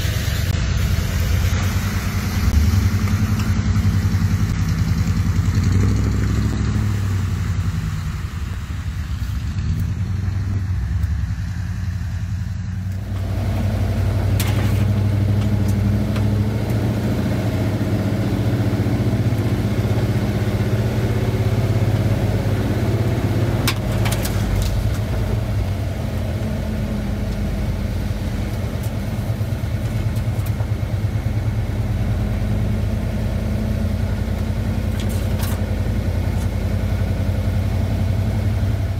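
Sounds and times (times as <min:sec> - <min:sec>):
car engine driving off road: 0:00.0 - 0:38.9.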